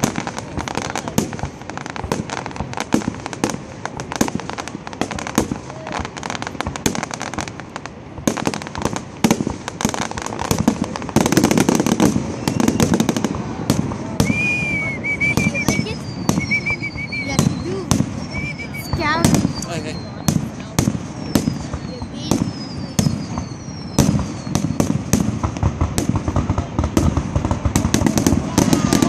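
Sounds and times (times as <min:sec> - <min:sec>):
fireworks bursting with bangs: 0:00.0 - 0:29.0
fireworks crackling: 0:00.0 - 0:29.0.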